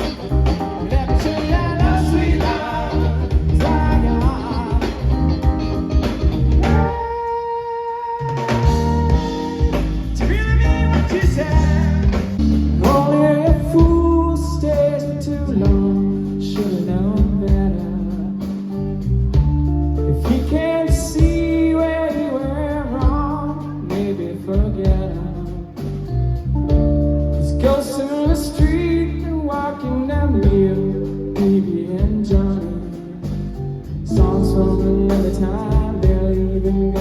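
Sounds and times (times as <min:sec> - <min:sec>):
live blues-funk band playing: 0:00.0 - 0:37.0.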